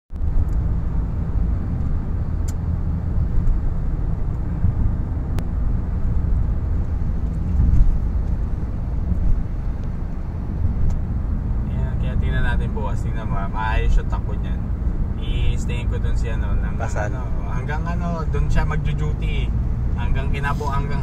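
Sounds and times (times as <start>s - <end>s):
car tyre and engine rumble: 0.1s - 21.0s.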